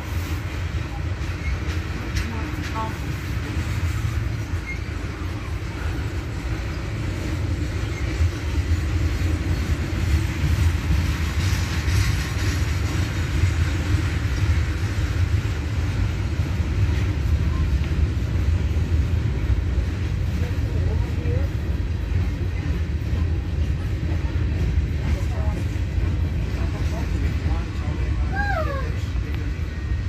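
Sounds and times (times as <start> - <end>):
freight train wheels rumbling on rail: 0.0 - 30.0.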